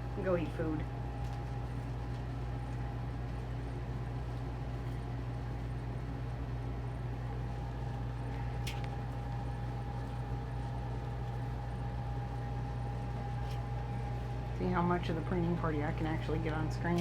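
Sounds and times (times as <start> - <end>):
mechanical hum: 0.0 - 17.0
thin constant whine: 0.0 - 17.0.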